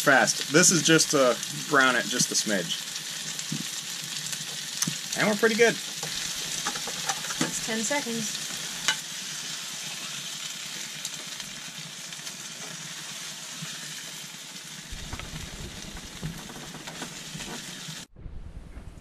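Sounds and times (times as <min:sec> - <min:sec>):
frying pan sizzling: 0:00.0 - 0:18.1.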